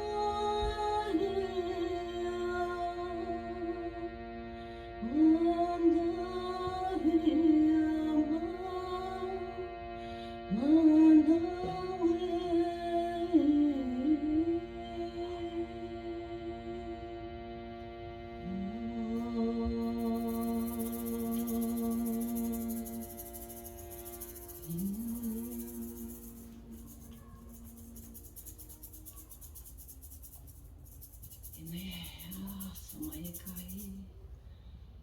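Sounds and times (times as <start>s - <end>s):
wordless chant-like singing: 0.0s - 29.0s
steady drone of sustained tones: 0.0s - 33.2s.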